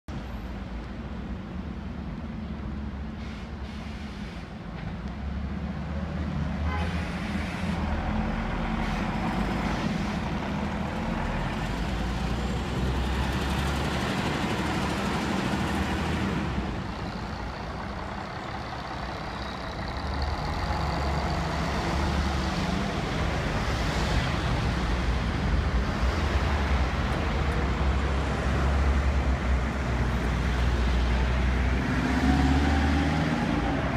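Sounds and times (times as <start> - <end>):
car traffic: 0.1 - 33.9
diesel bus engine: 0.1 - 33.9.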